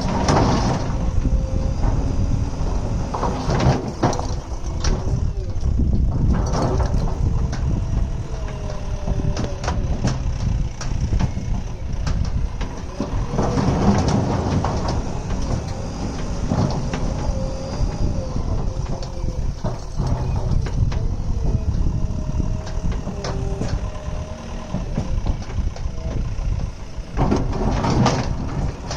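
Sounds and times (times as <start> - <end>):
diesel engine running: 0.0 - 28.9
knocks and clanks: 0.0 - 28.9.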